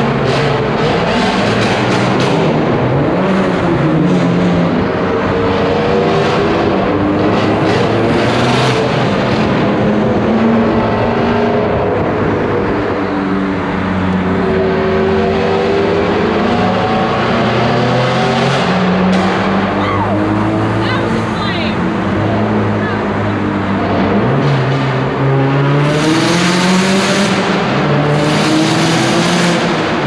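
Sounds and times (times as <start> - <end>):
loud turbocharged car engine revving: 0.0 - 30.0.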